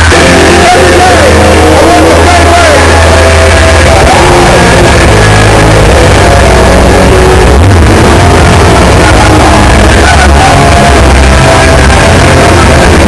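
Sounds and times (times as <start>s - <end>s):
distorted loud rock music: 0.0s - 13.0s.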